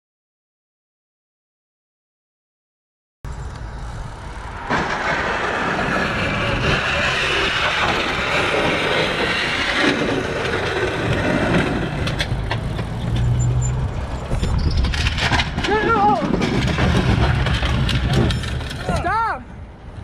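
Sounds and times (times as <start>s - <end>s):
city traffic road noise: 3.3s - 20.0s.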